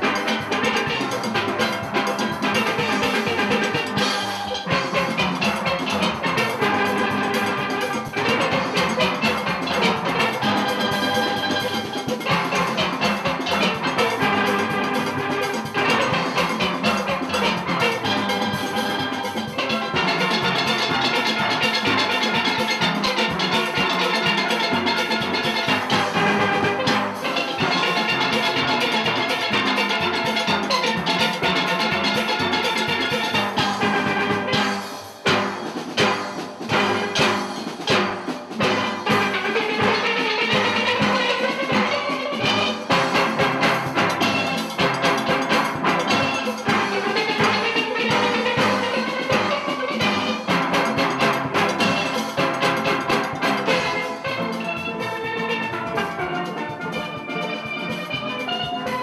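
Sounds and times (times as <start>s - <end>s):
drum section: 0.0s - 59.0s
steelpans playing calypso: 0.0s - 59.0s.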